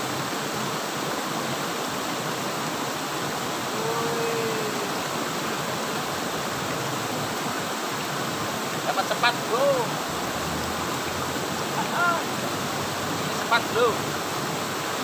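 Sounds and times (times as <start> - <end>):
water rushing from a culvert: 0.0 - 15.0.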